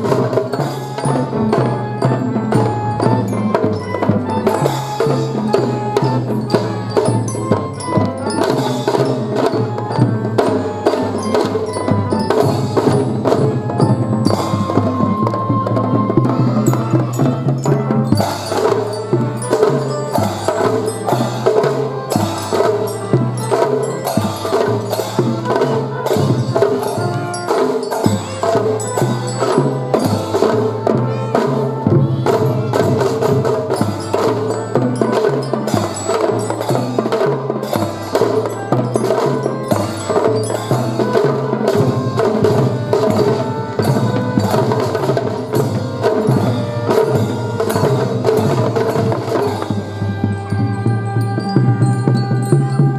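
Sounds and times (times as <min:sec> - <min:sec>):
bell-like melody: 0:00.0 - 0:52.9
drum strokes: 0:00.0 - 0:52.9
drum-and-fife band playing march: 0:00.0 - 0:52.9.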